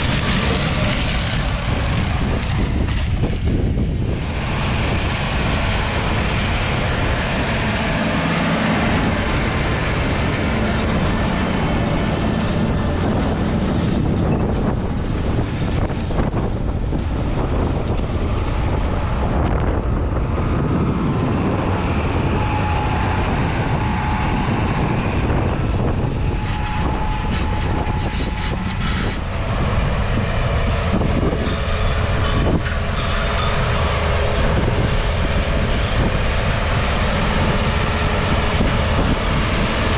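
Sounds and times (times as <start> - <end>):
tractor and harvester running: 0.0 - 39.9.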